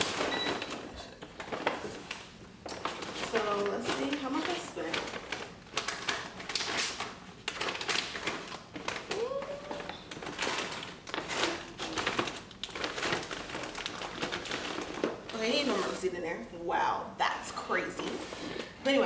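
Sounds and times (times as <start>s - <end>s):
paper bag rustling: 0.0s - 16.4s.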